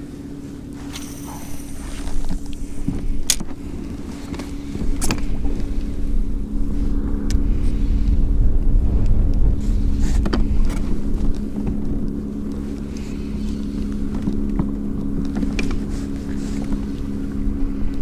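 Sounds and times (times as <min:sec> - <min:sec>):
steady low hum: 0:00.0 - 0:18.0
wind rumbling on microphone: 0:00.0 - 0:18.0.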